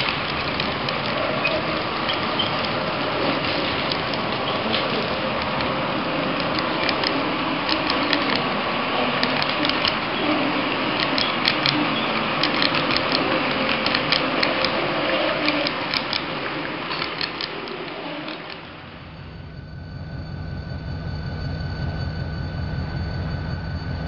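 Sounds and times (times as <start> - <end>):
model train cars rolling: 0.0 - 24.0.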